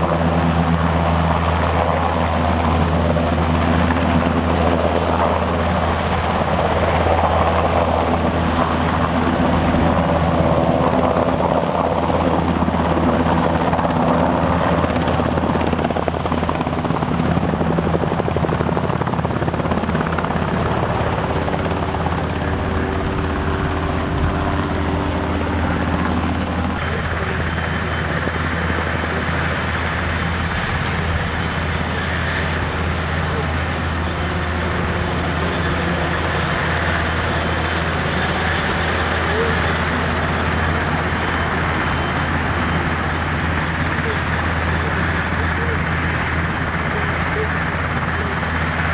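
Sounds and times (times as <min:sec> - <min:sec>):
helicopter rotor beat: 0:00.0 - 0:48.9
turbine whine: 0:00.0 - 0:48.9.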